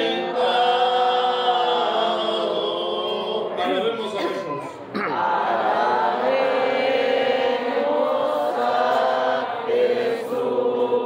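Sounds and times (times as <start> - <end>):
voices singing a slow hymn: 0.0 - 11.0.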